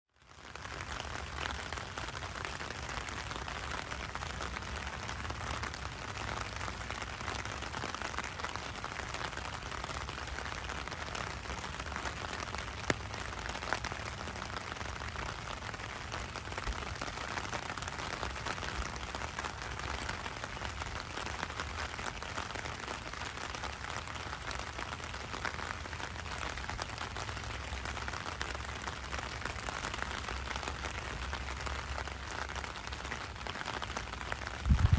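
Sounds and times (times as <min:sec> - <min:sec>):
rain on wet pavement: 0:00.1 - 0:34.9.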